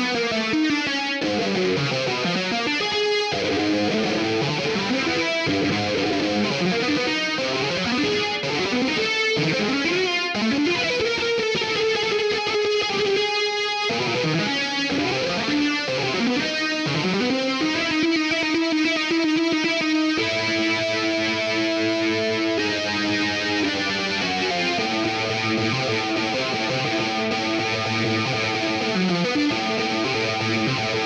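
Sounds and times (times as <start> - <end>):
distorted electric guitar lead: 0.0 - 31.0.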